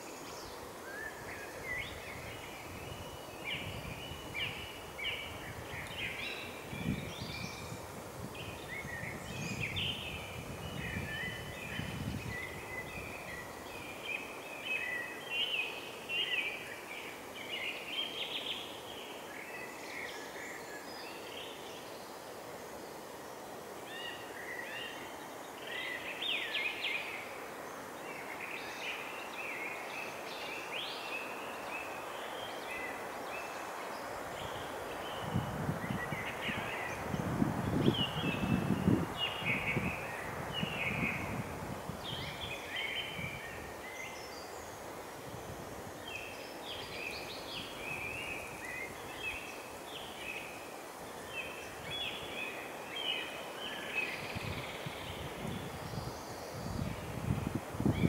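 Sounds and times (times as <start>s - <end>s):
songbirds chirping: 0.0s - 58.0s
steady outdoor hiss: 0.0s - 58.0s.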